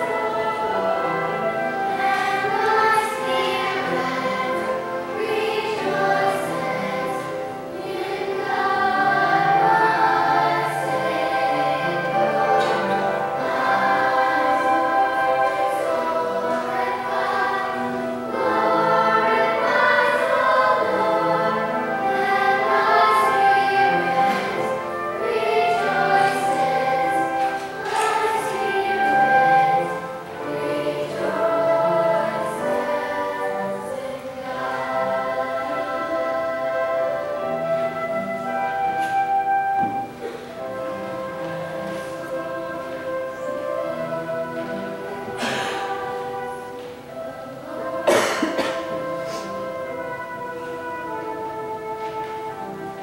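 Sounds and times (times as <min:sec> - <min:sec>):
choir singing long chords: 0:00.0 - 0:53.0.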